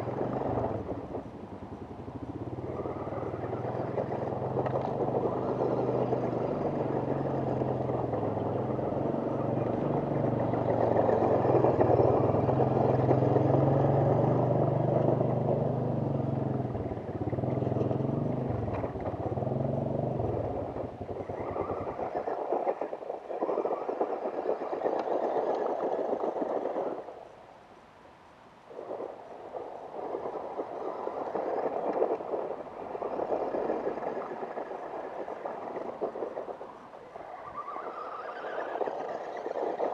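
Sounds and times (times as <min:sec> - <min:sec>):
small engine running: 0:00.0 - 0:27.1, 0:28.8 - 0:39.9
toy car whirring on gravel: 0:00.0 - 0:27.4, 0:28.7 - 0:39.9.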